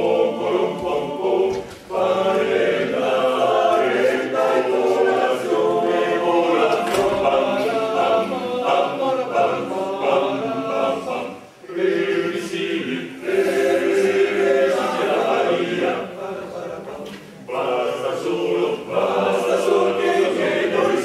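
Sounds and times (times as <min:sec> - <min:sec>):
male choir singing a cappella: 0:00.0 - 0:21.0.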